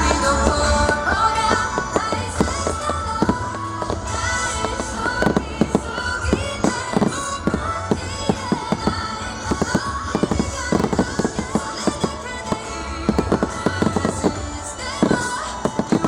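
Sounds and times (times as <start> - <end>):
fireworks bangs and crackles: 0.0 - 16.0
loud music: 0.0 - 16.0.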